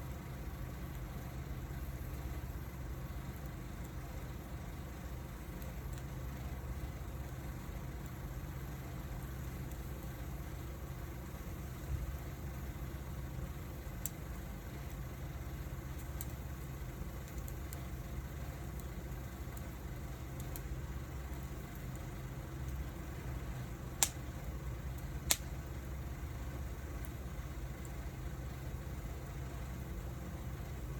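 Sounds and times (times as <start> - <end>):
low steady rumble: 0.0 - 30.9
wood fire crackling and popping: 0.0 - 30.9.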